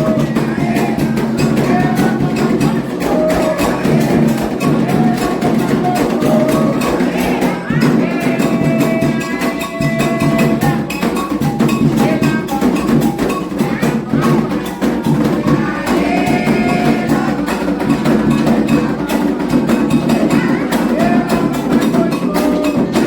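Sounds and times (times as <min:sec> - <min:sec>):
hand drums playing: 0:00.0 - 0:23.0
voices singing a chant: 0:00.0 - 0:23.0.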